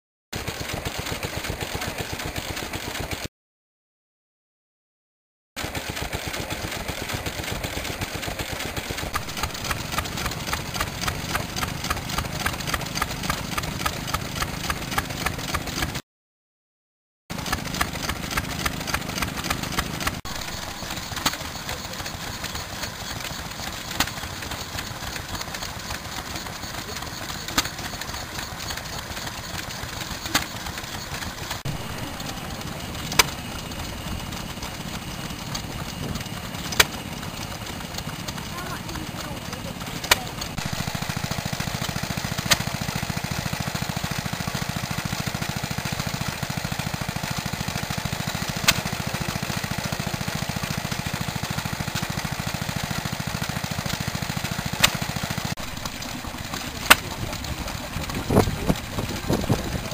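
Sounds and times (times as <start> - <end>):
stationary engine running: 0.4 - 3.3, 5.6 - 16.0, 17.3 - 59.9
stationary engine sharp pops: 5.6 - 16.0, 17.3 - 59.9.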